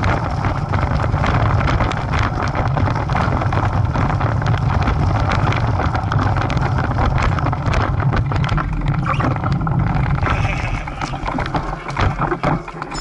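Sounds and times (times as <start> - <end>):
bicycle tyres crunching on gravel: 0.0 - 13.0
wind buffeting microphone: 0.0 - 13.0.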